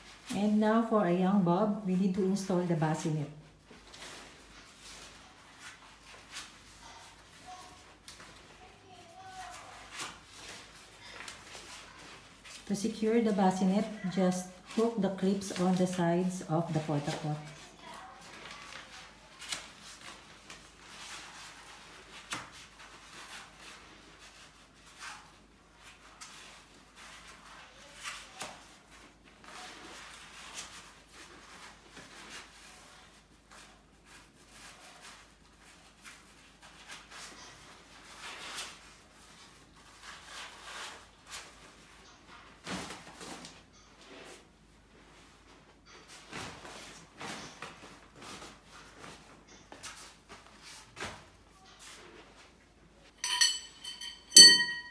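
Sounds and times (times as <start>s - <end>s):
fabric rustling: 0.0s - 54.9s.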